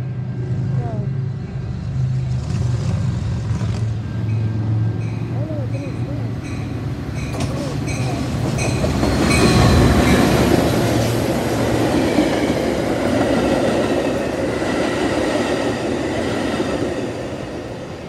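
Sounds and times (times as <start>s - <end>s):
diesel locomotive rumble: 0.0s - 18.0s
train wheels on rails: 1.8s - 18.0s.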